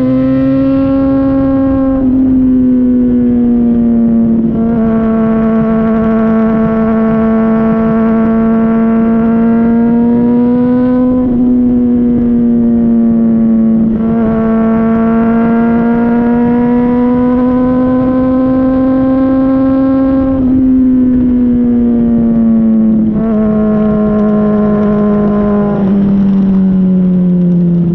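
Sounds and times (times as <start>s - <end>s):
motorcycle exhaust revving: 0.0s - 27.9s.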